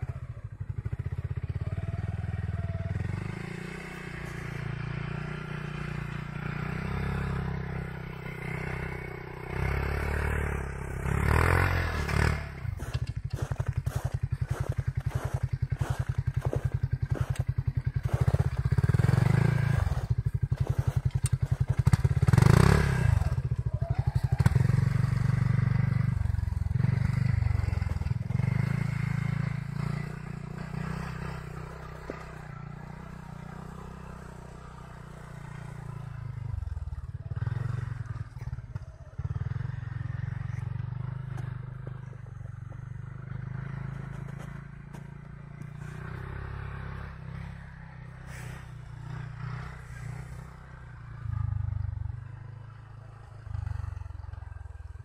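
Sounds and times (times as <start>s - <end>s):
distant utility vehicle engine: 0.0s - 55.0s.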